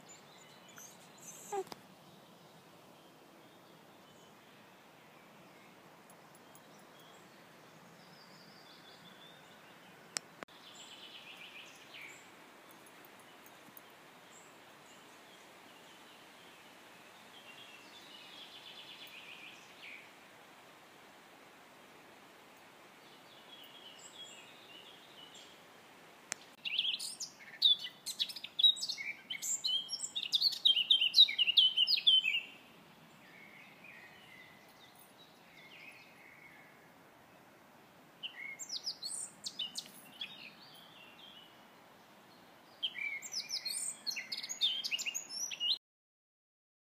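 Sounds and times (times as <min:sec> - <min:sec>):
loud rapid bird song: 0:00.0 - 0:20.2, 0:23.0 - 0:25.6, 0:26.4 - 0:37.5, 0:38.2 - 0:45.8
songbirds singing: 0:00.0 - 0:20.3, 0:22.5 - 0:25.7, 0:26.3 - 0:45.8
steady background hiss: 0:00.0 - 0:45.8.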